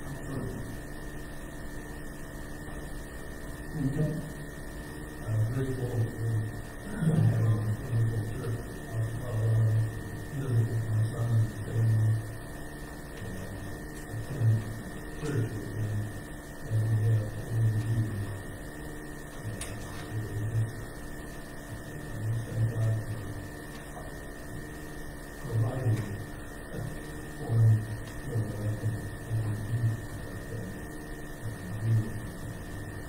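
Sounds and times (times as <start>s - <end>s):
muffled speech: 0.0s - 0.9s, 3.6s - 33.0s
electrical buzz: 0.0s - 33.0s
steady high whine: 0.0s - 33.0s.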